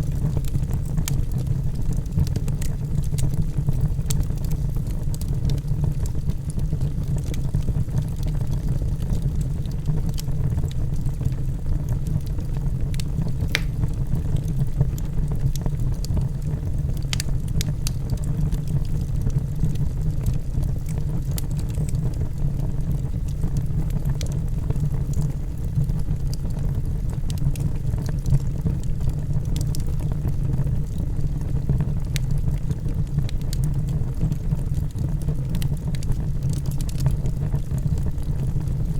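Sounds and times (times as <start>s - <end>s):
fire crackling and popping: 0.0s - 38.9s
fire rumbling: 0.0s - 38.9s.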